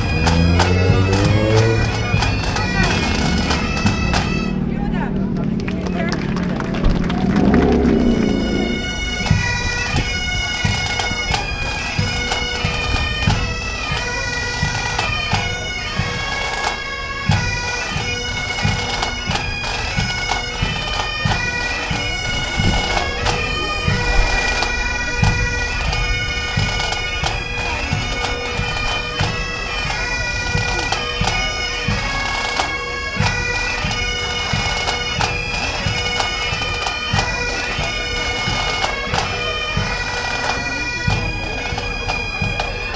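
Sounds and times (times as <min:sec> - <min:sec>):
bagpipes playing: 0:00.0 - 0:42.9.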